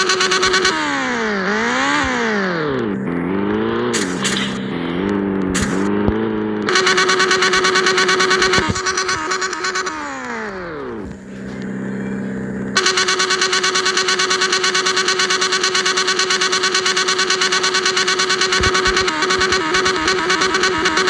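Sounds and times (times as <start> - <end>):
loud high-pitched engine note: 0.0 - 21.0
motorcycle engine idling: 0.0 - 21.0.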